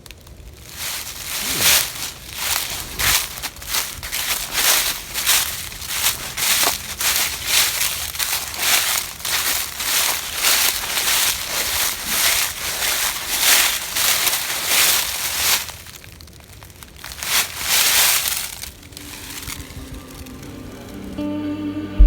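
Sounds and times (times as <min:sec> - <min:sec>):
footsteps crunching dry leaves: 0:00.0 - 0:21.2.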